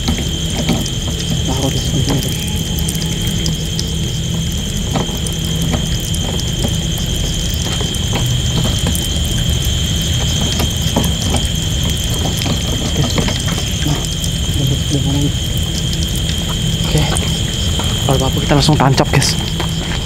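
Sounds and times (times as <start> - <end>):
night insects whining: 0.0 - 20.0.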